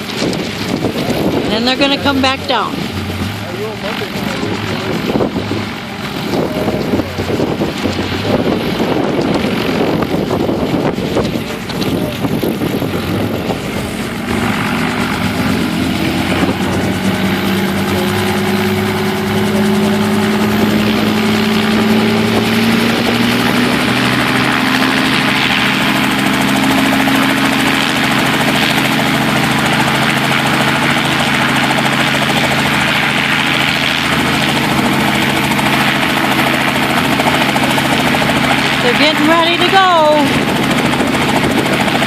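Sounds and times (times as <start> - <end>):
helicopter engine and rotor spooling up: 0.0 - 42.0.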